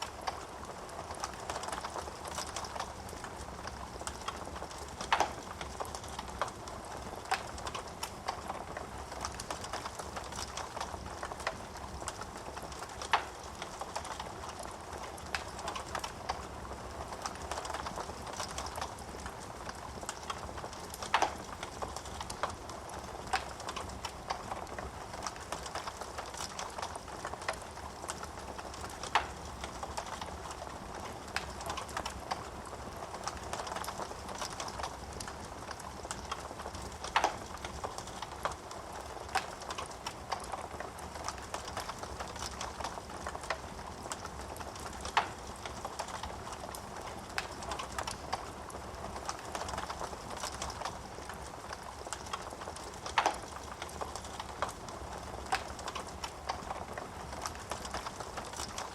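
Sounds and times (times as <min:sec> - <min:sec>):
burning logs crackling and popping: 0:00.0 - 0:58.9.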